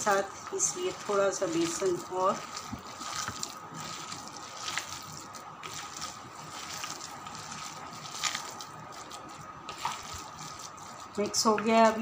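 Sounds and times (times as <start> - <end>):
hand kneading wet mixture: 0.0 - 12.0.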